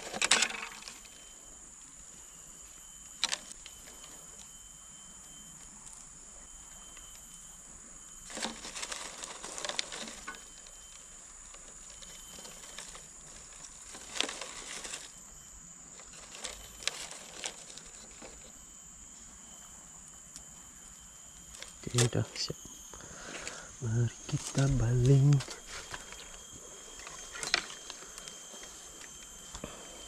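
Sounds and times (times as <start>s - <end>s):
high-pitched insect buzz: 0.0s - 30.0s.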